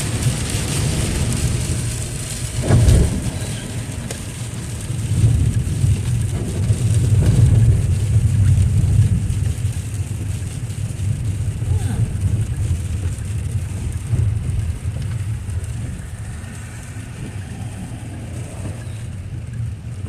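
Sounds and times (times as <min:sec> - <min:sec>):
rain hissing on car: 0:00.0 - 0:20.0
road and engine rumble: 0:00.0 - 0:20.0.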